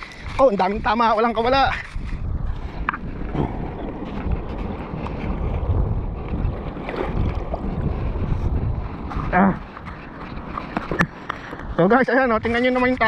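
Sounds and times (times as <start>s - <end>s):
wind buffeting microphone: 0.0s - 13.0s
small waves lapping on sand: 2.5s - 13.0s.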